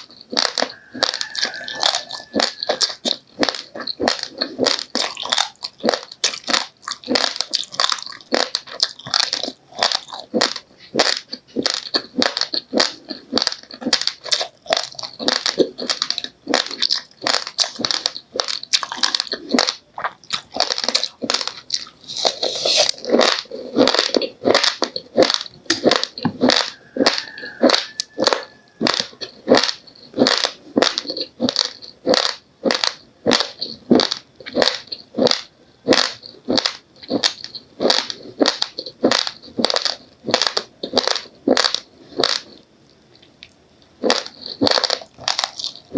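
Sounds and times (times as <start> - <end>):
person chewing raw rice: 0.0 - 45.9.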